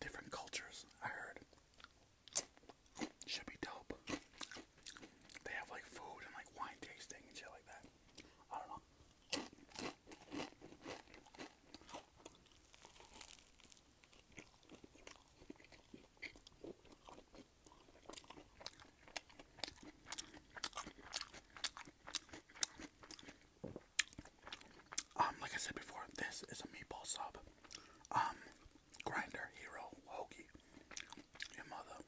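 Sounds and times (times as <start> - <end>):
chewing crunchy food: 1.4 - 8.4, 9.1 - 32.0.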